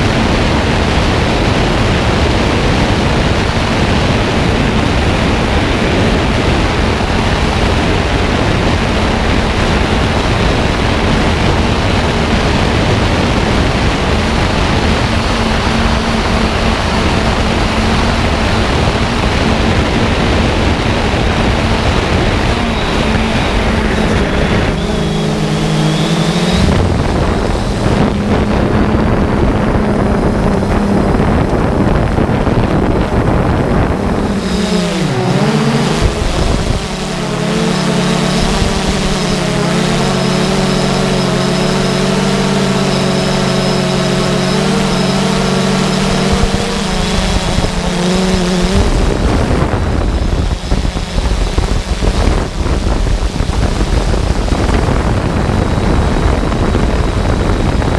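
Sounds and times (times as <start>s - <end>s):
quadcopter propellers droning: 0.0s - 57.9s
wind rushing: 0.0s - 57.9s.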